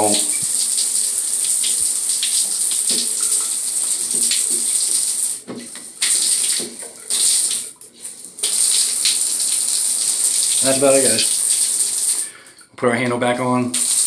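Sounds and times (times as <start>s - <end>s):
water running through valve: 0.0s - 12.6s, 13.7s - 14.0s.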